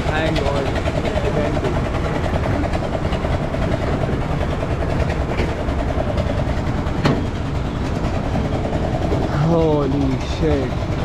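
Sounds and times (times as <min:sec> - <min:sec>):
fast rhythmic clatter: 0:00.0 - 0:11.0
ferris wheel machinery rumbling: 0:00.0 - 0:11.0.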